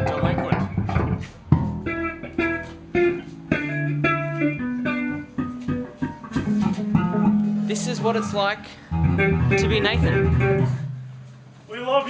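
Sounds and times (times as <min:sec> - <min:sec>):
electric guitar single notes: 0:00.0 - 0:11.4.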